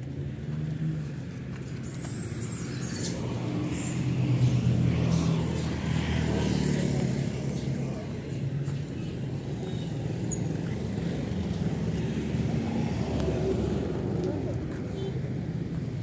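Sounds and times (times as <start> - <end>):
motorcycles and cars passing: 0.0 - 16.0.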